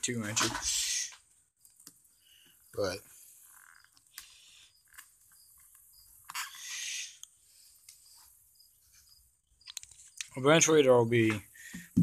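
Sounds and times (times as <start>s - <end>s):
insects chirping: 0.5s - 12.0s.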